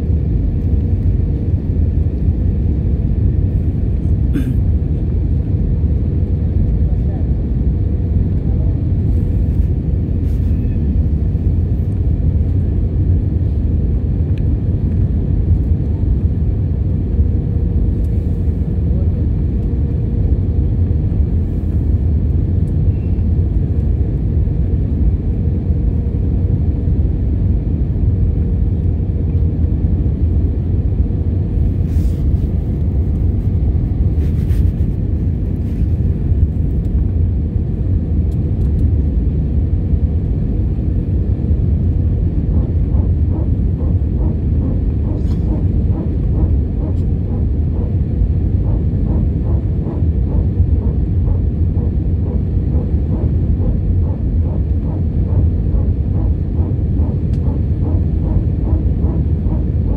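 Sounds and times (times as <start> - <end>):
faint steady hum: 0.0 - 59.9
jet airliner cabin rumble: 0.0 - 59.9.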